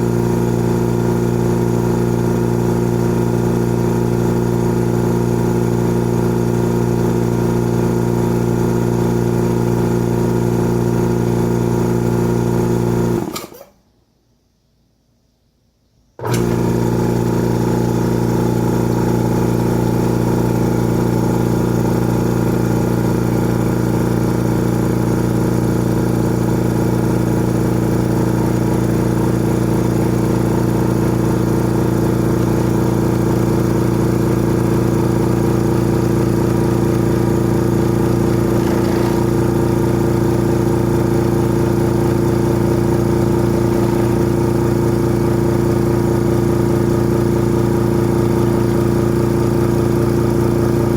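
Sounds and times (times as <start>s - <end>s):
air compressor running: 0.0s - 13.7s, 16.2s - 50.9s.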